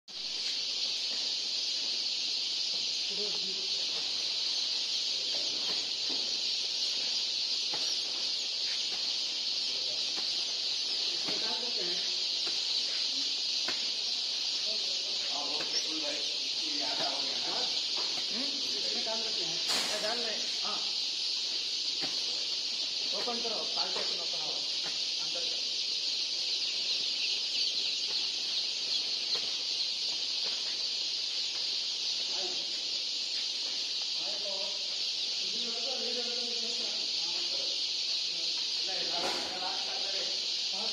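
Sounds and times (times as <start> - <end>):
chicks peeping: 0.1 - 40.9.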